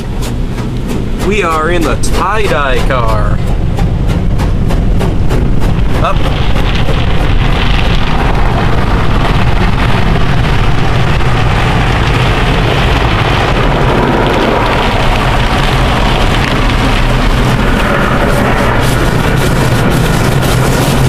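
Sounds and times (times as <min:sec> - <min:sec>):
car wash water spraying on car: 0:00.0 - 0:21.0.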